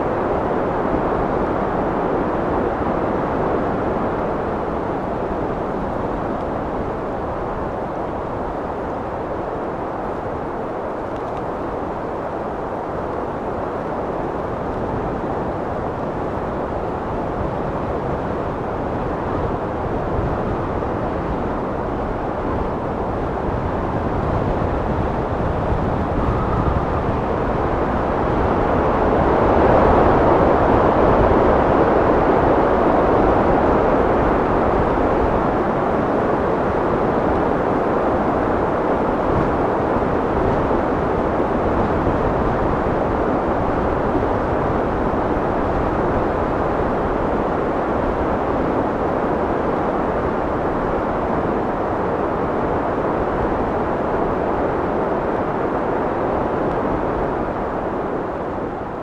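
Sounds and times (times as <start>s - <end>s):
wind blowing: 0.0s - 59.0s.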